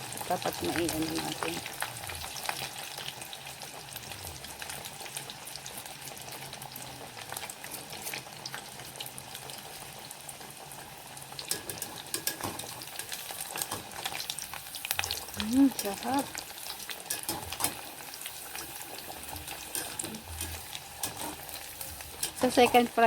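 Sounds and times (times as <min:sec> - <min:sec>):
food deep-frying in hot oil: 0:00.0 - 0:23.0.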